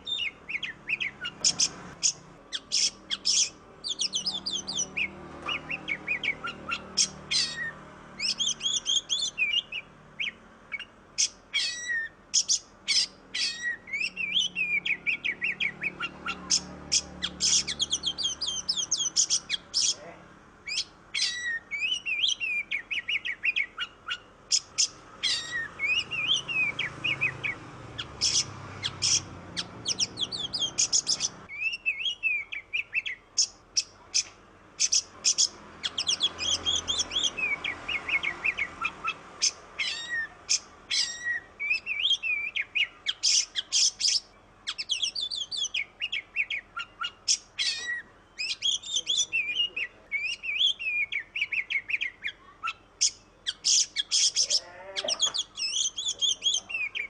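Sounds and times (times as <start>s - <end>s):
magpie-robin singing: 0.0s - 57.0s.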